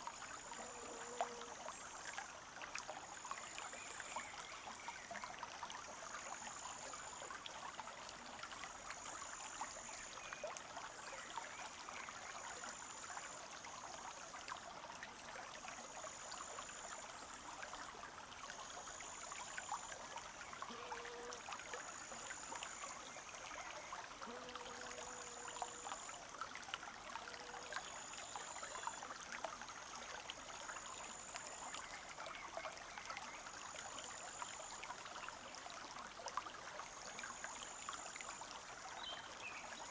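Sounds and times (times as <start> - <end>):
stream rushing and trickling: 0.0 - 39.9.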